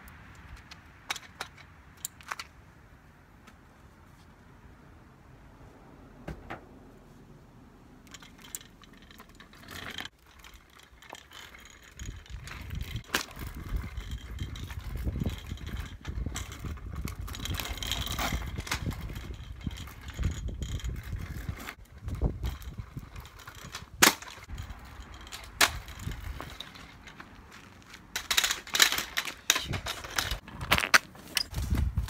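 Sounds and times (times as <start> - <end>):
scooter wheels rolling on asphalt: 0.0 - 4.6, 5.5 - 32.0.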